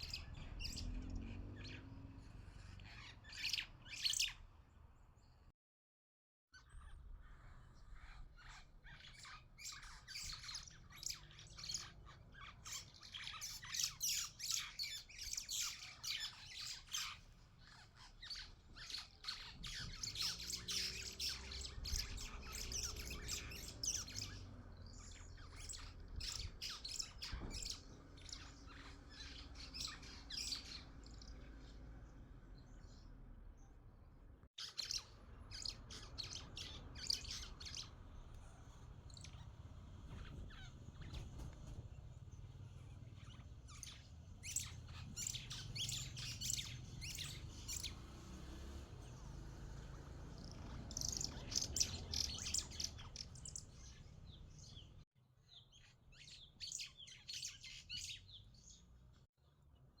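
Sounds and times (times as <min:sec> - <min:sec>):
small birds chirping: 0:00.0 - 0:05.5, 0:06.6 - 1:00.0.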